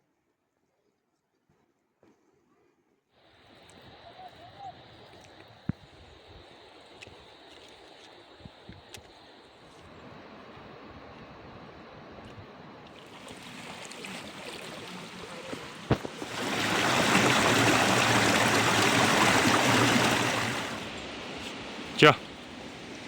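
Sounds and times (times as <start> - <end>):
rushing water: 3.3 - 23.0.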